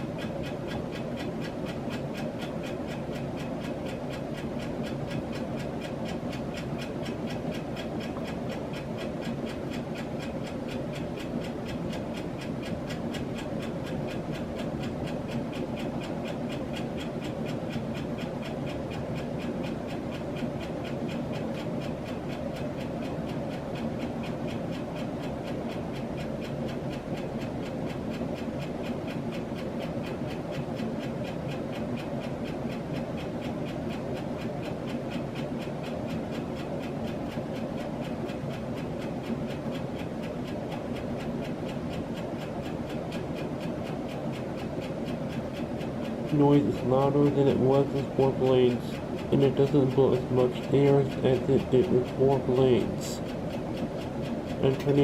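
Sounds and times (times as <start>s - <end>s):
ceiling fan motor hum: 0.0s - 55.0s
fast clicking from fan bearing: 0.0s - 55.0s.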